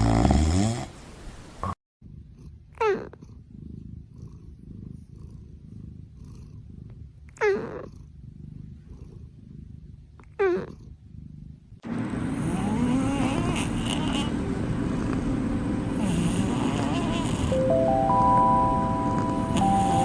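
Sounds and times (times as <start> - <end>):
cat snoring low rumble: 0.0 - 0.9, 2.0 - 17.8, 19.0 - 20.0.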